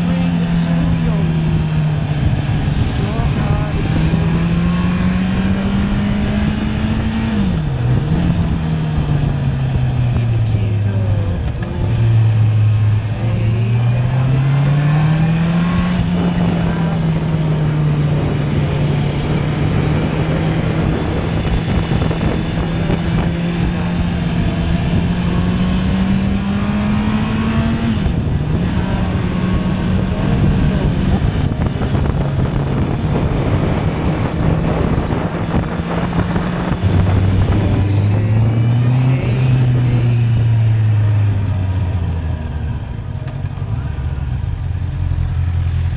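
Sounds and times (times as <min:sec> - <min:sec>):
motorcycle engine revving: 0:00.0 - 0:45.9
steady rush of noise: 0:00.0 - 0:45.9.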